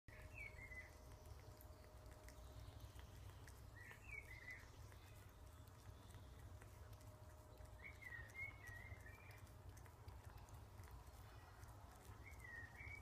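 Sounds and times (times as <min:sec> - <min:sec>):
high chirping calls: 0:00.1 - 0:06.7, 0:07.5 - 0:09.6, 0:10.9 - 0:13.0.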